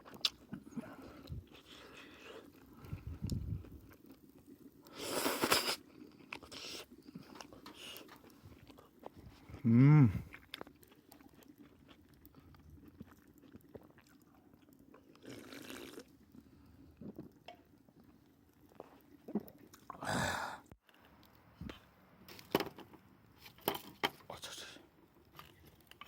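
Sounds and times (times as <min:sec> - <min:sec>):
person chewing food: 0:00.0 - 0:20.0, 0:25.0 - 0:26.0.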